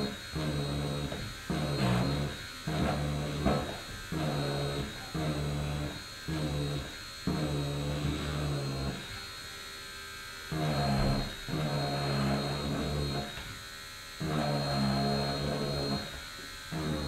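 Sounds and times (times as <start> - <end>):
faint high motor whine: 0.0 - 17.0
rotary tool buzzing: 0.0 - 17.0.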